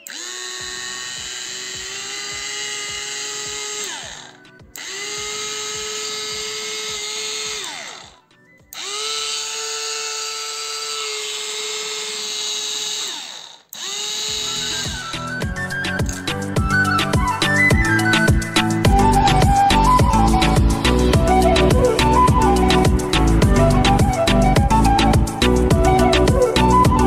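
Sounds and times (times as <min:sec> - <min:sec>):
electric chopper motor humming: 0:00.0 - 0:08.2, 0:08.8 - 0:25.0.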